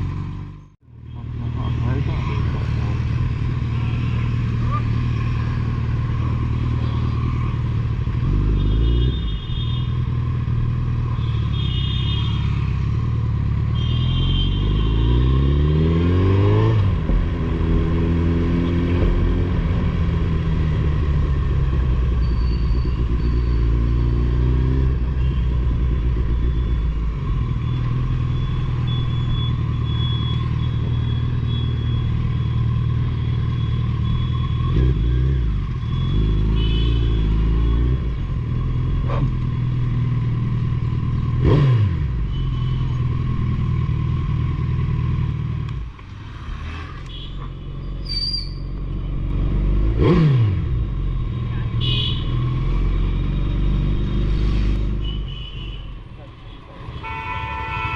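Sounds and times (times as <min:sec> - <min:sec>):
motorcycle engine revving: 0:00.0 - 0:47.2, 0:48.6 - 0:55.2.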